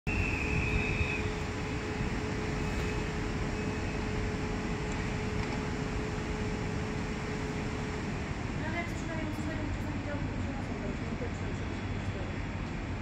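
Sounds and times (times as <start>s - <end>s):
electric locomotive humming: 0.1s - 13.0s.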